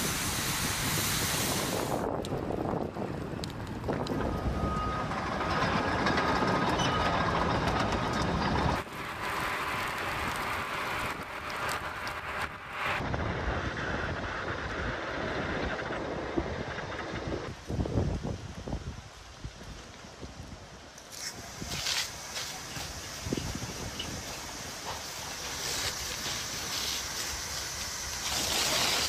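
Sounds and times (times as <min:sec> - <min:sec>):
wildfire roaring: 0:00.0 - 0:29.0.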